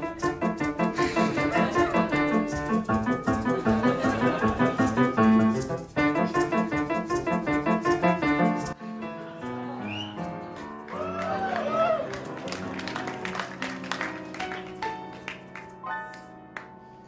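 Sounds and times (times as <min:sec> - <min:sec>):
piano playing quick notes: 0:00.0 - 0:17.0.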